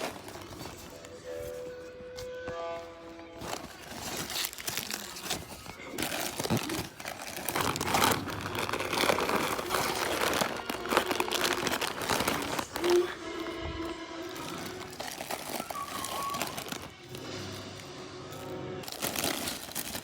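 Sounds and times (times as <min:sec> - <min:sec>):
plastic wrappers crinkling: 0:00.0 - 0:20.0.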